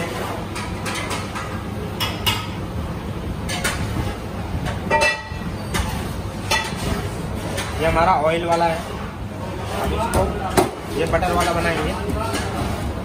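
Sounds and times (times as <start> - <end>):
kitchen background rumble: 0.0 - 13.0.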